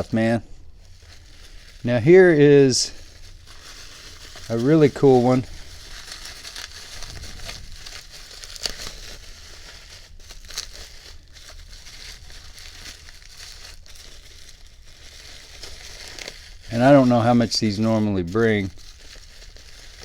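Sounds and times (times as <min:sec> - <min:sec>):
packing wrap crinkling: 0:00.0 - 0:20.0.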